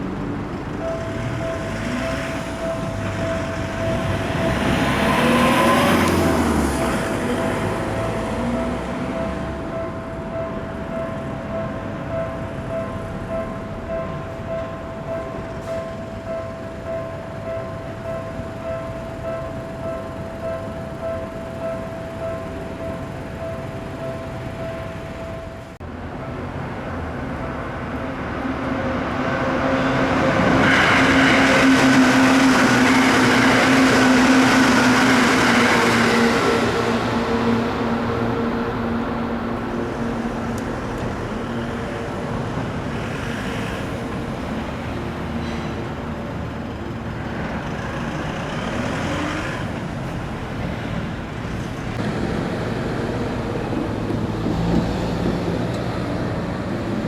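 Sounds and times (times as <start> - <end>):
heavy road traffic: 0.0 - 57.0
trucks passing: 0.0 - 57.0.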